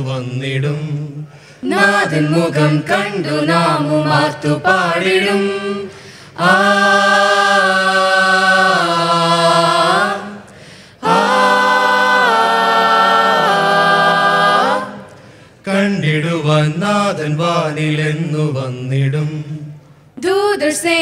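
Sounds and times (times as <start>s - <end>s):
group singing a cappella: 0.0s - 19.8s.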